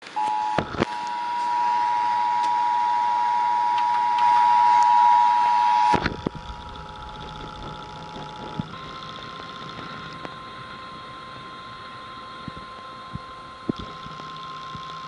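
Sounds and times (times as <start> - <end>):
emergency alert two-tone signal: 0.1 - 12.7.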